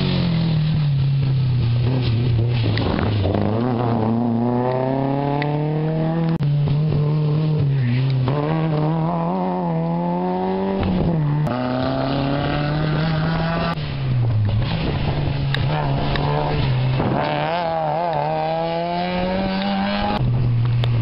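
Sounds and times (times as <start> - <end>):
rally cars accelerating past: 1.8 - 14.0, 14.6 - 20.2.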